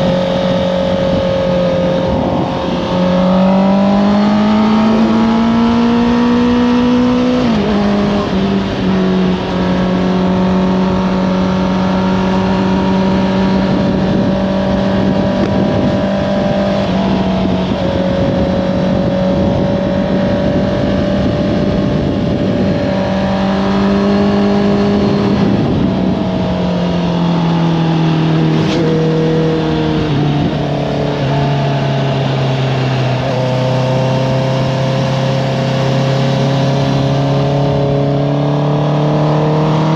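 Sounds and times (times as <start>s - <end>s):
motorcycle engine running: 0.0s - 38.8s
wind rush: 0.0s - 39.9s.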